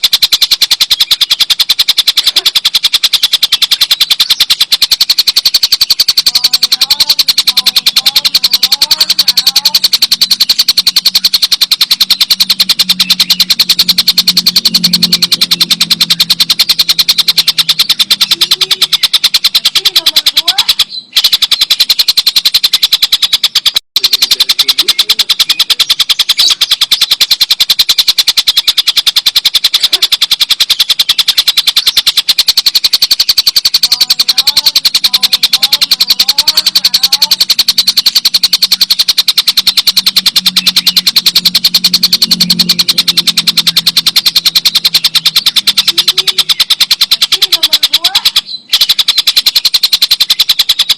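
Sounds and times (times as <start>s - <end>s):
faint bird chirps: 0.0s - 50.9s.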